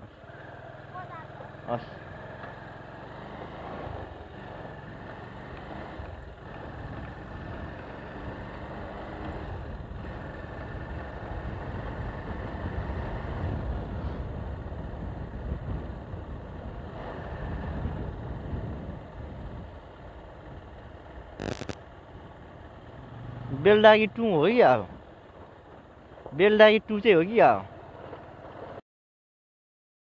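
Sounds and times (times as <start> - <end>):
motorcycle engine running: 0.0 - 26.5, 27.7 - 28.8.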